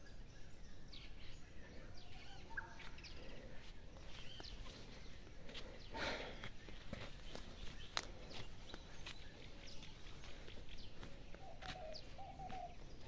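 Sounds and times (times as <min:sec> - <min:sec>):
birds chirping faintly: 0:00.0 - 0:13.0
outdoor background noise: 0:00.0 - 0:13.0.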